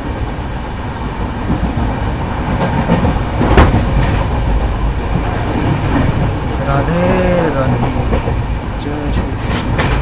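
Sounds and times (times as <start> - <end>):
train rumbling from inside coach: 0.0 - 10.0
wheels clattering over rail joints: 1.2 - 10.0.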